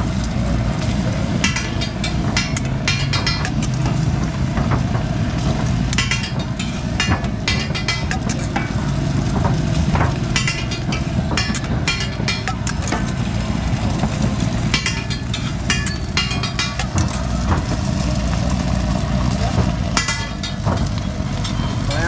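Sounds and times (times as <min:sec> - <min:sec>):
food frying on griddle: 0:00.0 - 0:22.0
steady low rumble: 0:00.0 - 0:22.0
metal spatula scraping griddle: 0:00.9 - 0:21.9.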